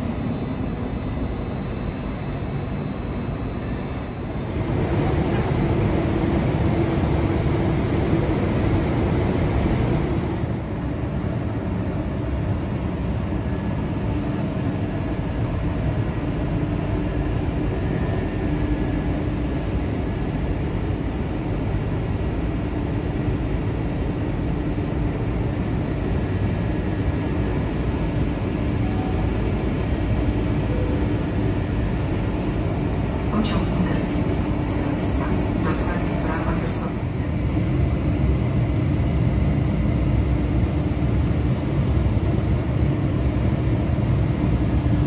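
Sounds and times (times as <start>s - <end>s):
faint hum: 3.3s - 45.0s.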